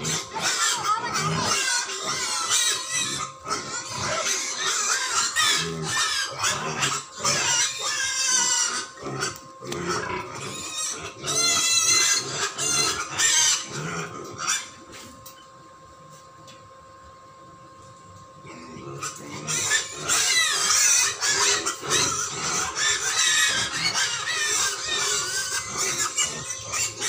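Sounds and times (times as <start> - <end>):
pigs squealing: 0.0 - 15.1, 18.4 - 27.0.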